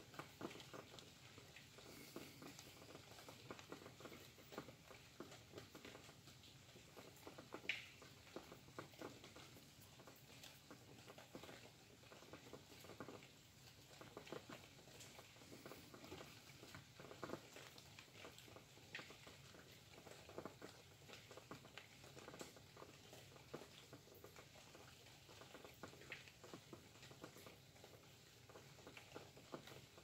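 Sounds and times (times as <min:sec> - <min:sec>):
drips and ticks: 0:00.0 - 0:30.0
faint rain pattering: 0:00.0 - 0:30.0.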